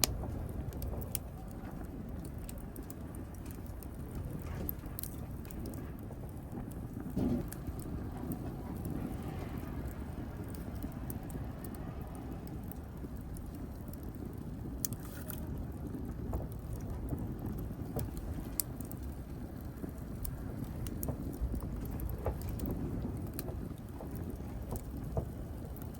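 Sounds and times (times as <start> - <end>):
low rumble of flames: 0.0 - 25.9
wood fire crackling and popping: 0.0 - 25.9.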